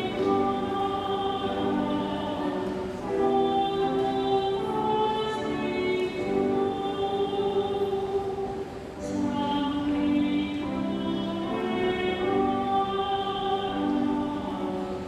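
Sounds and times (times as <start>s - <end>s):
choir singing a hymn: 0.0s - 15.0s.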